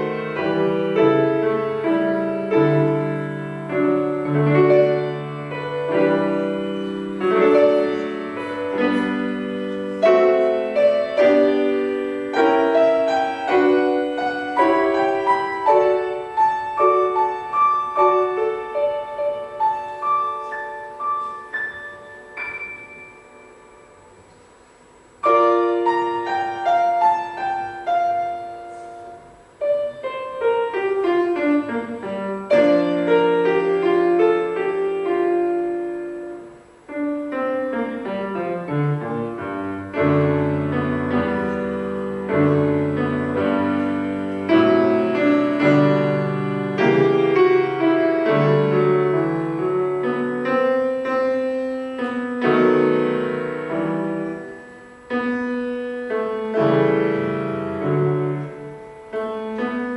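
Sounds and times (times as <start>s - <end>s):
solo classical piano: 0.0s - 59.9s.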